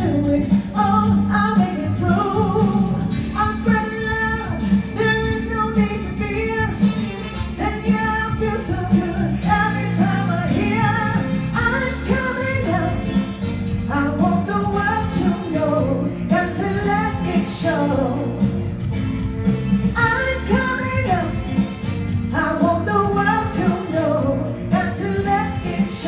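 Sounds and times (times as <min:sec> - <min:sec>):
person singing: 0:00.0 - 0:18.8, 0:20.0 - 0:26.0.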